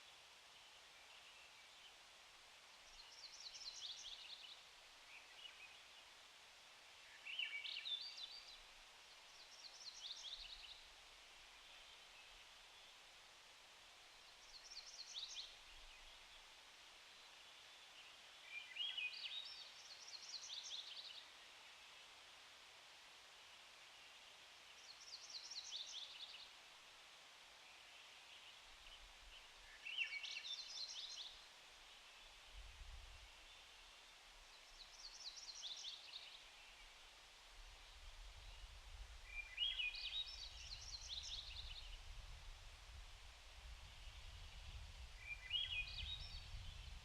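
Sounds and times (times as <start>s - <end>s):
creek water hiss: 0.0s - 47.0s
songbird singing: 2.7s - 6.2s, 7.0s - 13.0s, 14.1s - 16.5s, 17.2s - 21.8s, 24.7s - 26.6s, 27.5s - 47.0s.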